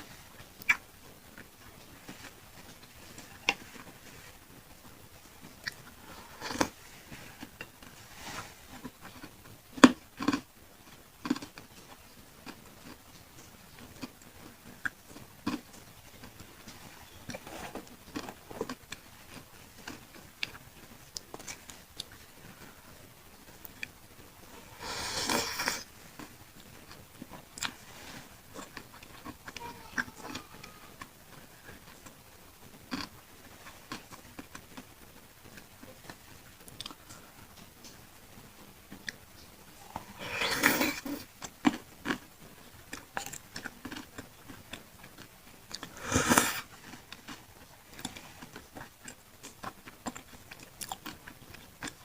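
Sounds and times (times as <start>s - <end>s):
chewing and wet mouth sounds: 5.4s - 22.8s, 23.4s - 32.2s, 35.5s - 38.0s, 38.9s - 52.0s.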